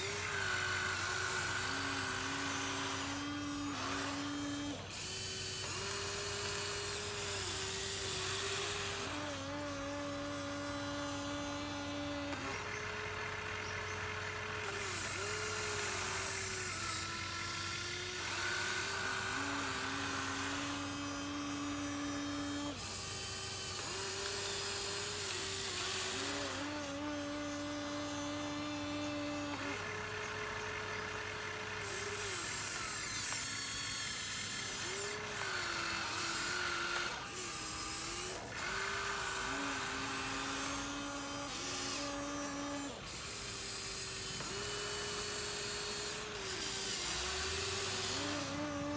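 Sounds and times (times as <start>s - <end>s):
constant low hum: 0.0s - 48.9s
electric gear motors whining: 0.0s - 48.9s.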